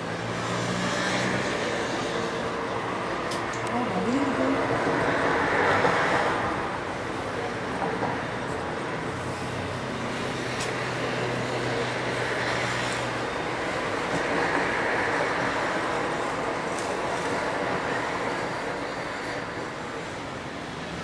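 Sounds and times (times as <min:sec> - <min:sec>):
slow traffic engines: 0:00.0 - 0:21.0.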